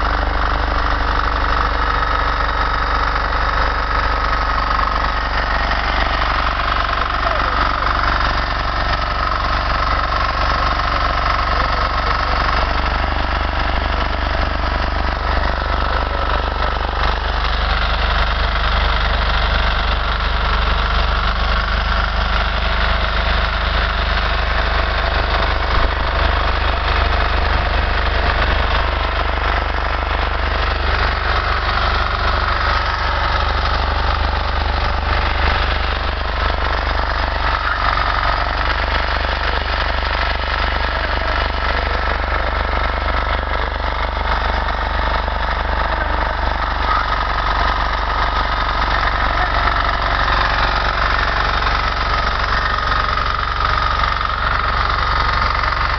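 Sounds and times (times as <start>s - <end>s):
tiller engine running: 0.0s - 55.9s.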